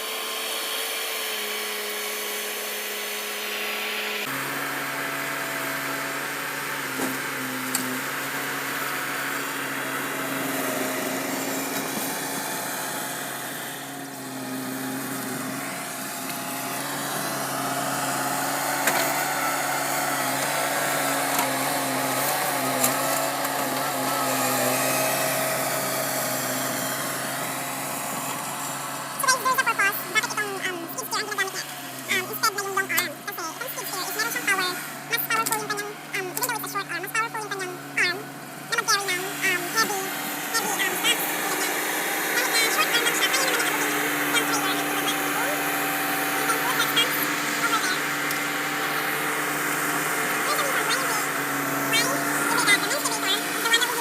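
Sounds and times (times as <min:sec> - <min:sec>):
hydraulic whine: 0:00.0 - 0:54.0
skid steer engine running: 0:00.0 - 0:54.0.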